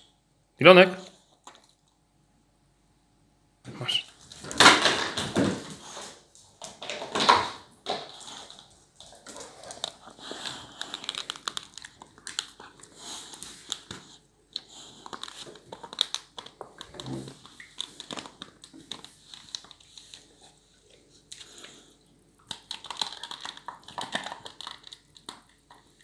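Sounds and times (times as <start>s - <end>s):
dog gnawing on a bone: 4.3s - 26.0s.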